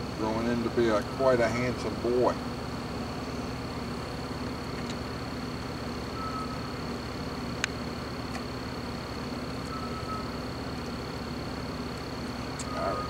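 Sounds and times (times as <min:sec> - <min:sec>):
background hum and hiss: 0:00.0 - 0:13.0
faint high whine: 0:00.0 - 0:13.0.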